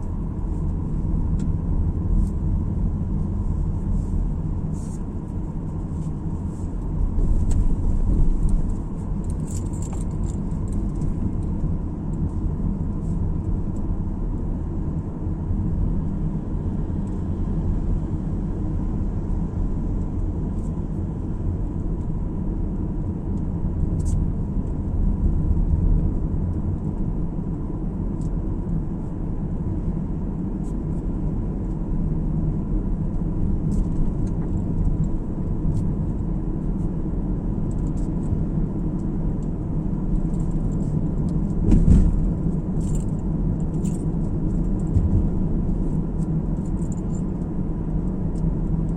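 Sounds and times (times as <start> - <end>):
car driving on road rumble: 0.0 - 48.9.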